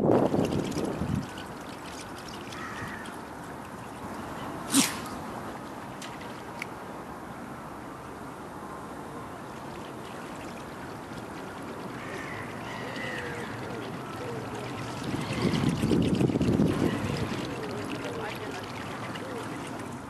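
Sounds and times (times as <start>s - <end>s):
lure blade churning water: 0.0s - 6.7s, 9.5s - 20.0s.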